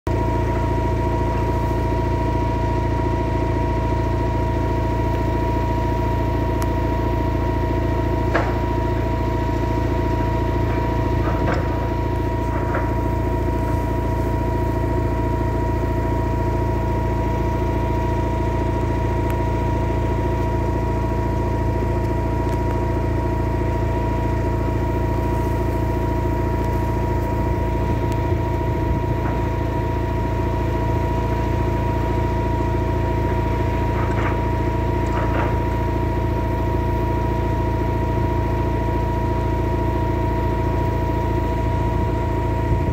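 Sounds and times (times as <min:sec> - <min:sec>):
engine running steadily: 0:00.1 - 0:42.9.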